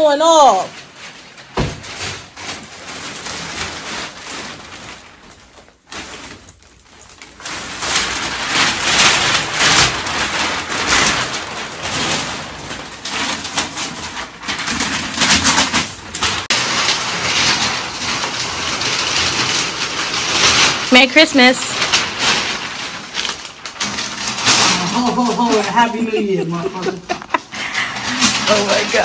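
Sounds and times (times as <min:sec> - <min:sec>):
wrapping paper tearing and crumpling: 0:00.0 - 0:29.0.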